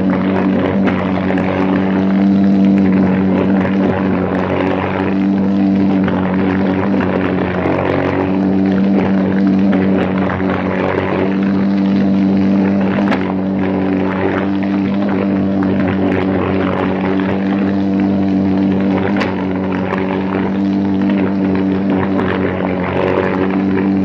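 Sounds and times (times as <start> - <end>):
kart engine running at high revs: 0.0 - 24.0.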